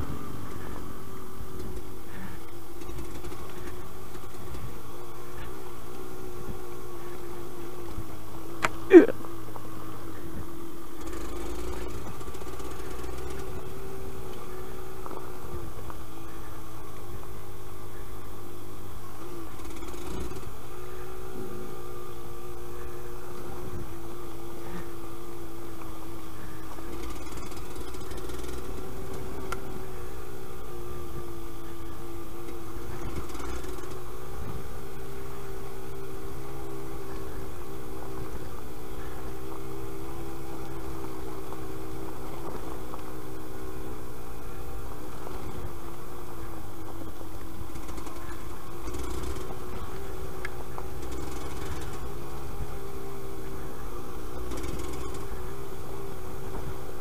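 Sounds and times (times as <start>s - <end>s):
two-stroke engine running: 0.0s - 57.0s.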